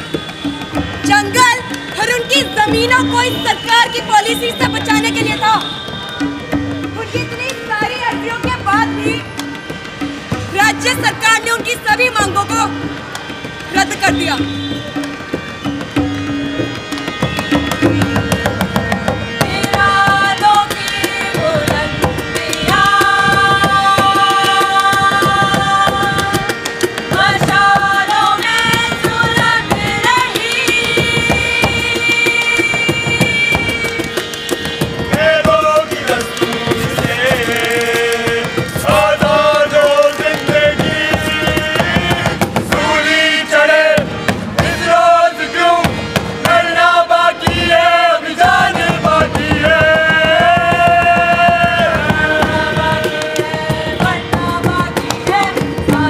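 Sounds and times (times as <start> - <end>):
harmonium drone: 0.0 - 56.0
tabla beat: 0.0 - 56.0.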